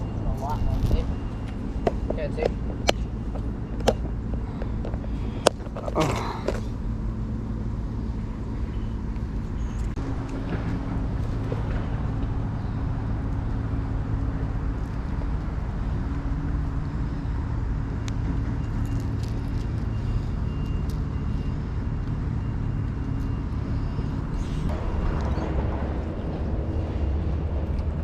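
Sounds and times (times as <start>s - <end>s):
low engine hum: 0.0s - 28.0s.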